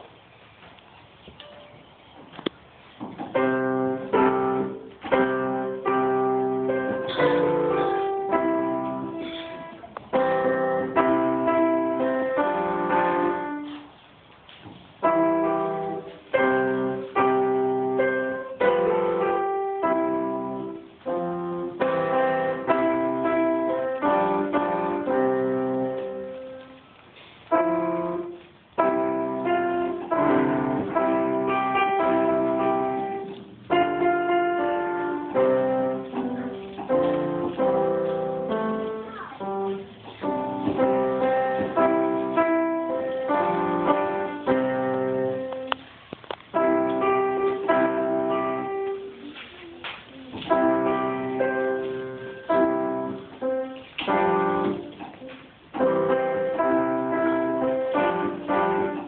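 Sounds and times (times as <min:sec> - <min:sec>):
solo grand piano: 0:00.0 - 0:59.0.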